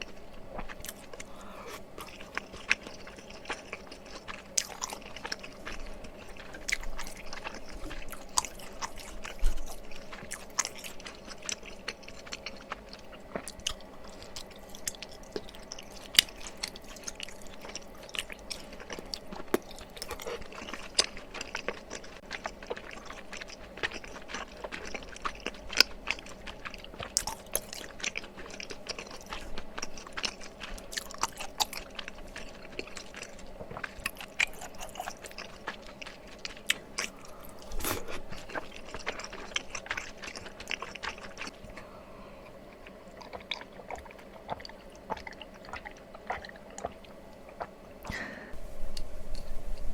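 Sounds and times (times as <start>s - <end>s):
wet chewing and mouth clicks: 0.0s - 48.4s.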